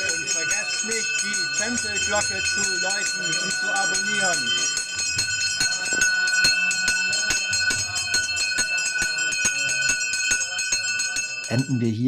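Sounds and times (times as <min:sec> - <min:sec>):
hand bell rung rapidly: 0:00.0 - 0:12.0.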